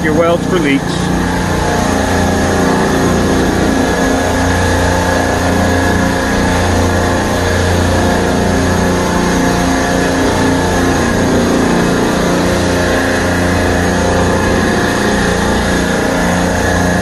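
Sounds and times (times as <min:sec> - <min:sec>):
refrigeration compressors humming: 0:00.0 - 0:17.0.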